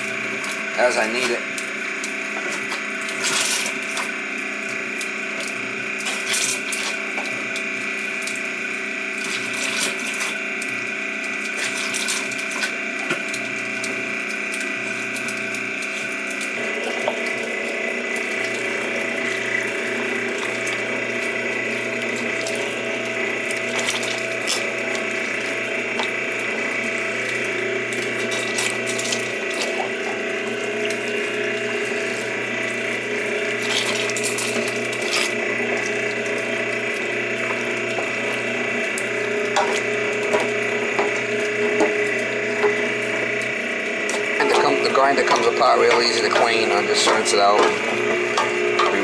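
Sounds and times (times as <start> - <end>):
meat grinder motor hum: 0.0 - 49.0.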